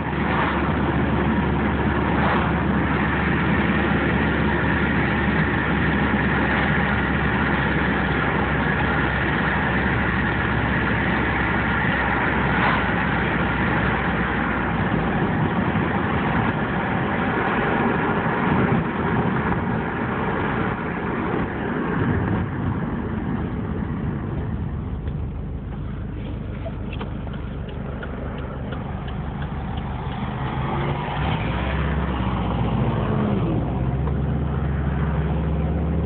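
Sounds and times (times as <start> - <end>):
car engine idling: 0.0 - 32.4.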